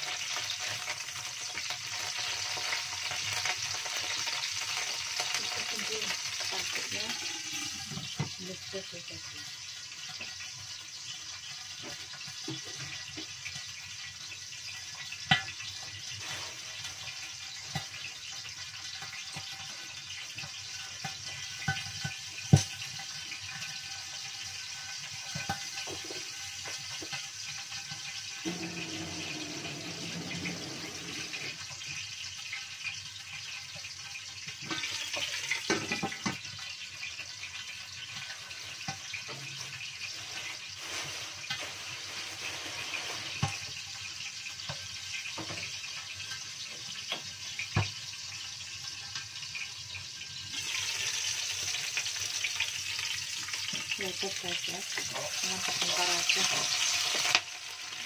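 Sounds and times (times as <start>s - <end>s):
chillies sizzling in hot oil: 0.0s - 58.0s.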